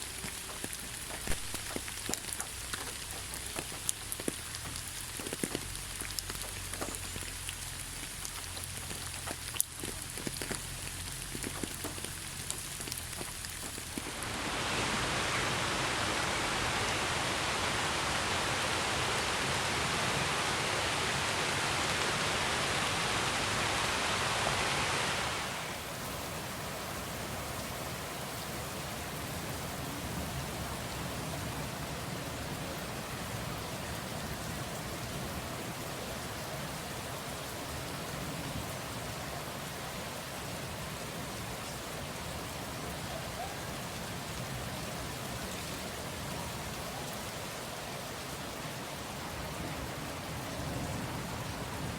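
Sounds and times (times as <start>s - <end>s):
steady rain hissing: 0.0s - 51.9s.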